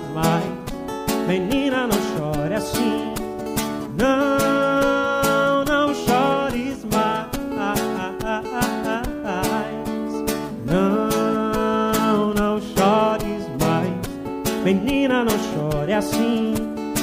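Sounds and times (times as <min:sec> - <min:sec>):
acoustic guitar song: 0:00.0 - 0:17.0.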